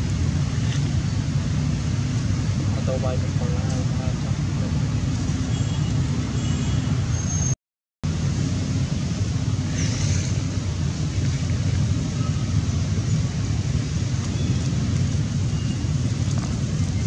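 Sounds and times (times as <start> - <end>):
low outdoor rumble: 0.0 - 7.2, 8.0 - 17.0.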